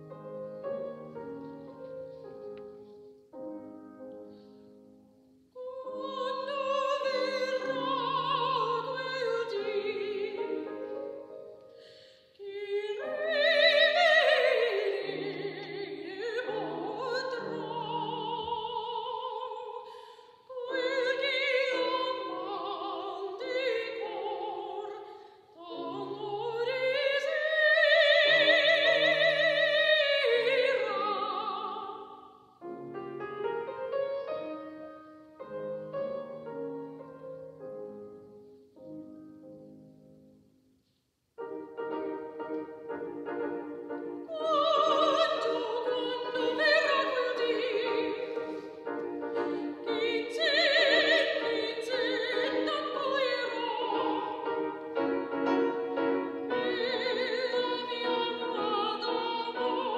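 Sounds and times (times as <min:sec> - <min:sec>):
grand piano accompaniment: 0:00.0 - 0:59.9
soprano singing with vibrato: 0:05.5 - 0:37.5, 0:41.4 - 0:59.9.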